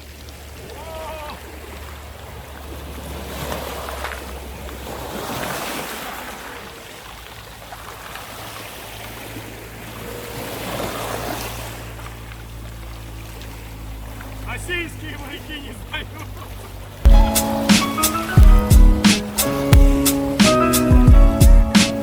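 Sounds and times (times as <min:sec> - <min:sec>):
water washing and splashing: 0:00.0 - 0:22.0.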